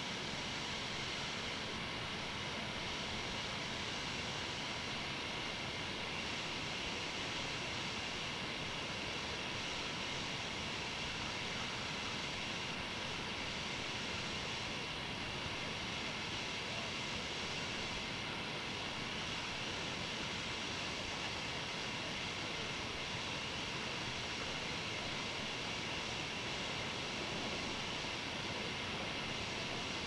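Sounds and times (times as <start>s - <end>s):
steady device hiss: 0.0s - 30.0s.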